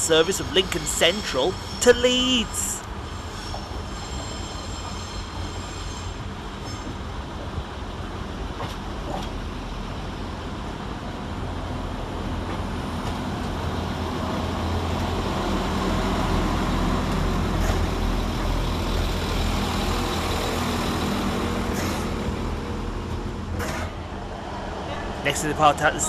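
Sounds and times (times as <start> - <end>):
train diesel engines rumbling: 0.0 - 26.0.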